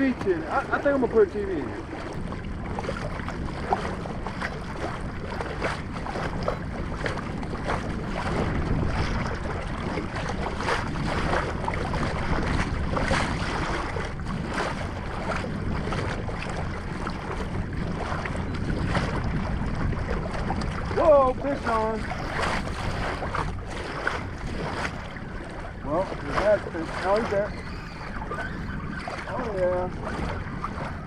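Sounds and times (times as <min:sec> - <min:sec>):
waves slapping kayak hull: 0:00.0 - 0:31.0
wind buffeting microphone: 0:00.0 - 0:31.0.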